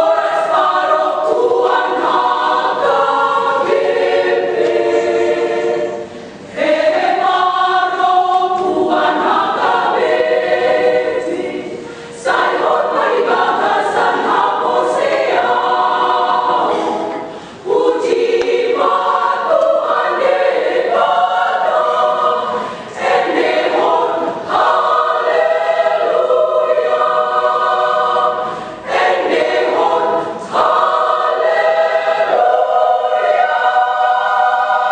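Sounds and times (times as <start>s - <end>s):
women's choir singing: 0.0s - 34.9s.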